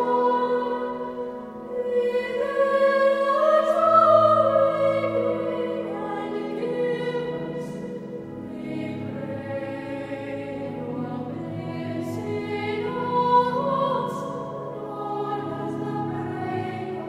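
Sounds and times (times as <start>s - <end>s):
slow choral singing: 0.0s - 17.0s.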